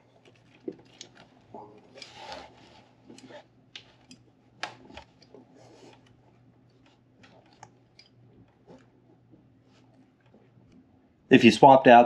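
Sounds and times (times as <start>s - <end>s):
belt rubbing on pulley: 0.0s - 4.2s, 4.8s - 10.6s.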